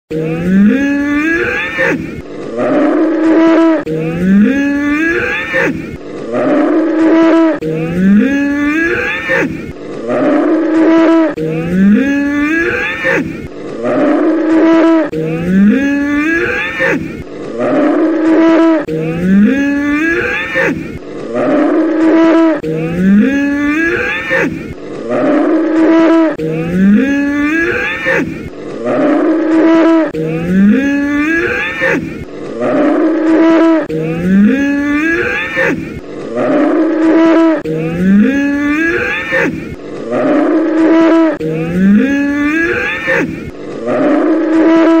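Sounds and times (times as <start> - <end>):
bull bellowing: 0.1 - 45.0.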